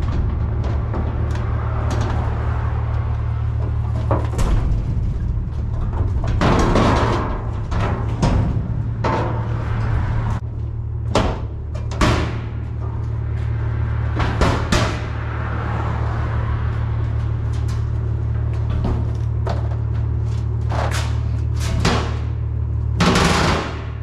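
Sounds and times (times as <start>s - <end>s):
knocks and bangs: 0.0s - 20.9s
steady low hum: 0.0s - 24.0s.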